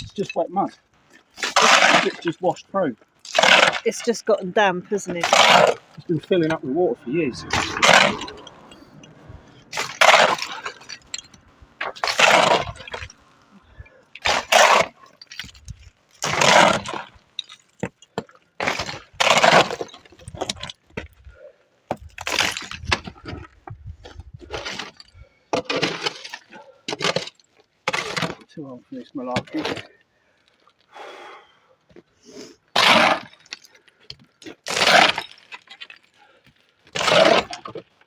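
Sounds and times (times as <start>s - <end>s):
shovel scraping rubble: 0.0s - 21.3s, 21.9s - 30.0s, 32.6s - 38.0s.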